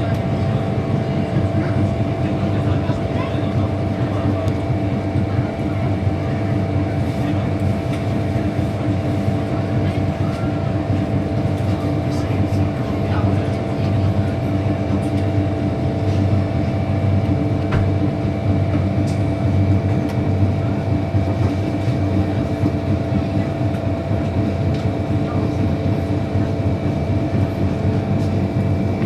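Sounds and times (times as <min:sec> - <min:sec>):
train drive hum and whine: 0:00.0 - 0:29.0
wheel and rail running noise: 0:00.0 - 0:29.0.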